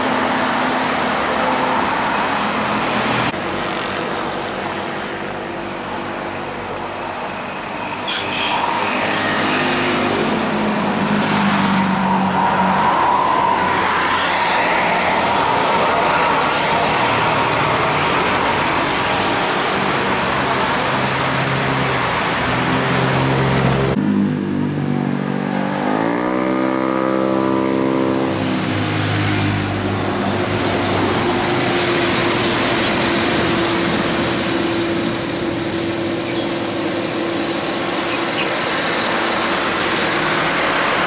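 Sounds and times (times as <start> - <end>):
bus engines running: 0.0 - 41.0
road traffic: 0.0 - 41.0.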